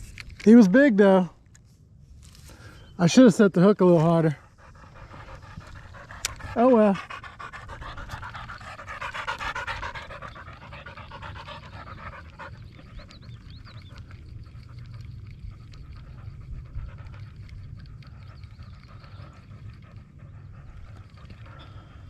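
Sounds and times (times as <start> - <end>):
low steady rumble: 0.0 - 22.0
rapid panting: 3.8 - 22.0.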